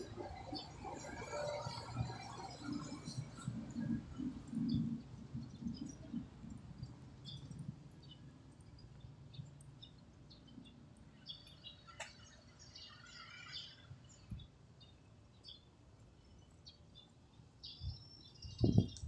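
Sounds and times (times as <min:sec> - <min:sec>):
small birds chirping: 0:02.9 - 0:19.0.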